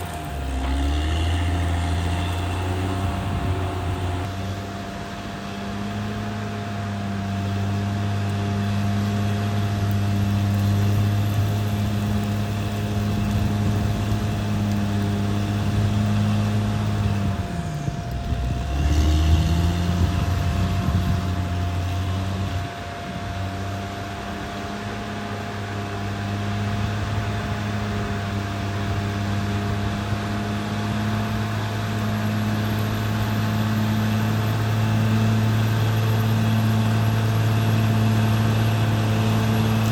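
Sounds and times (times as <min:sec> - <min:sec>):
bulldozer diesel engine running: 0:00.0 - 0:39.9
steady whine: 0:00.0 - 0:39.9.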